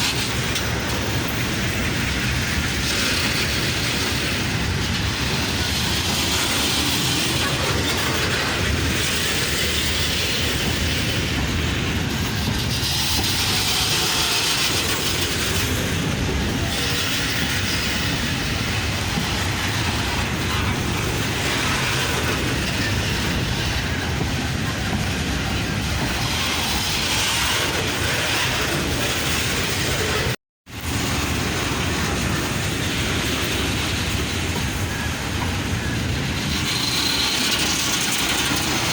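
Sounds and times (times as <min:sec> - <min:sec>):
freight train rumble: 0:00.0 - 0:38.9
high wheel on rail hiss: 0:00.0 - 0:38.9
train wheels clicking over rail joints: 0:00.0 - 0:38.9.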